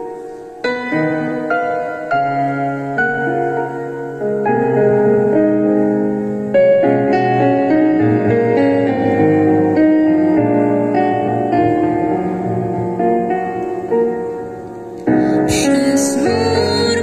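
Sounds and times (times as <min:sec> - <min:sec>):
digital piano chords and melody: 0:00.0 - 0:17.0.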